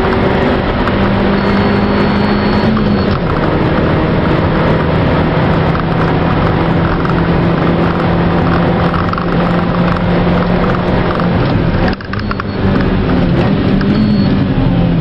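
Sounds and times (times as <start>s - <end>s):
car engine pulling hard: 0.0s - 15.0s
road and tyre noise: 0.0s - 15.0s.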